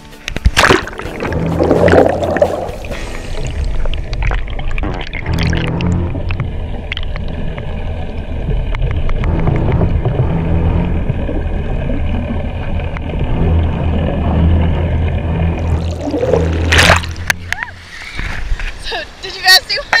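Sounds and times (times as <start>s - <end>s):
low underwater rumble: 0.5s - 18.8s.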